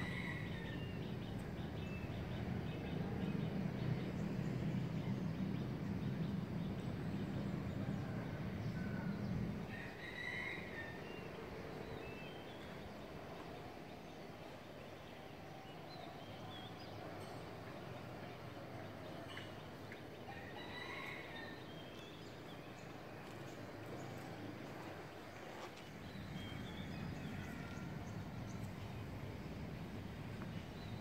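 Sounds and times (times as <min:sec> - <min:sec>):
faint outdoor hum: 0:00.0 - 0:31.0.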